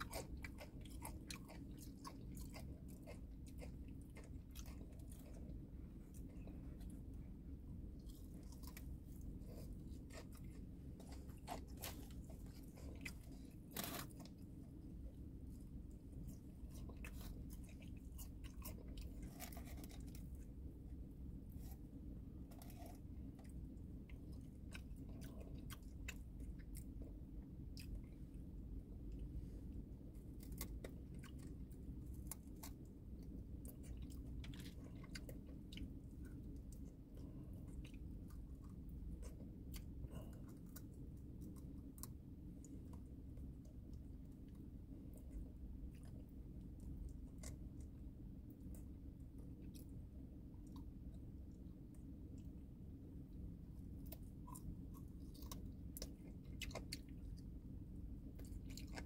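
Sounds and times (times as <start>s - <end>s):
person chewing crunchy food: 0.0s - 59.0s
steady low rumble: 0.0s - 59.0s.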